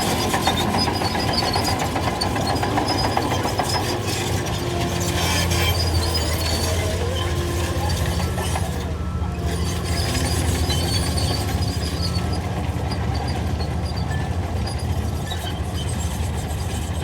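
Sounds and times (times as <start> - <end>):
diesel machine engine hum: 0.0 - 17.0.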